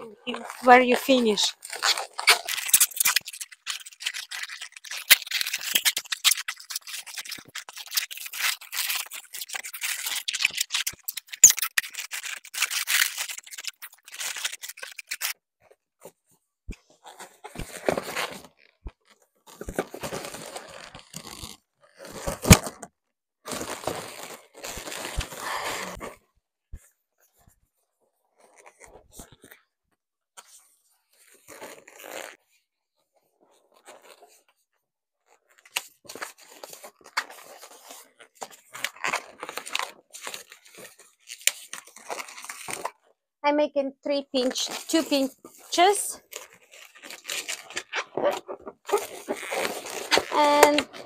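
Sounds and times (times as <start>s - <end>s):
balloons rubbing and crinkling: 0.0s - 15.4s, 16.8s - 22.7s, 23.5s - 26.2s, 30.6s - 32.6s, 33.2s - 34.5s, 35.2s - 43.0s, 44.4s - 51.0s.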